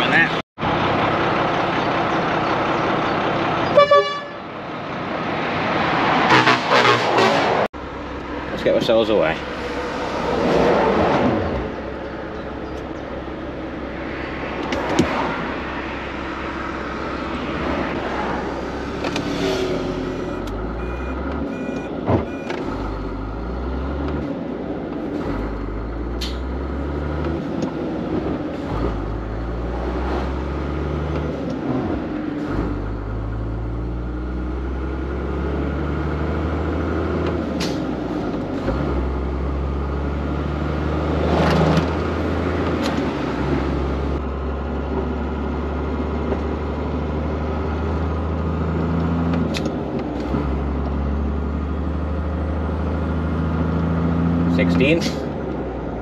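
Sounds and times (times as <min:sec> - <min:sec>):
diesel lorry engine accelerating: 0:00.0 - 0:56.0.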